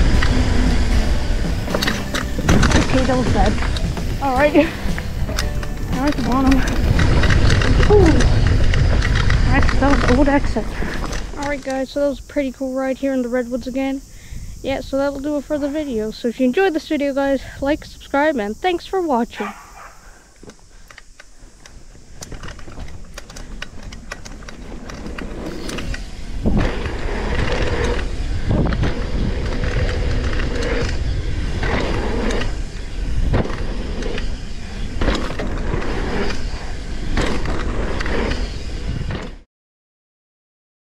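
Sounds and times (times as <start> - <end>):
bike knocking and rattling: 0.0 - 13.6, 19.4 - 39.4
tyres rumbling on dirt: 0.0 - 39.4
wind rushing over microphone: 0.0 - 39.4.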